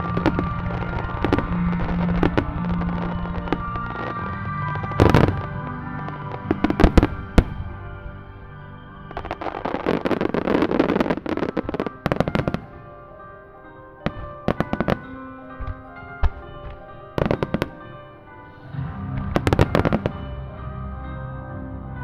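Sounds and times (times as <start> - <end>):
firework bangs: 0.0 - 20.4
music playing: 0.0 - 22.0.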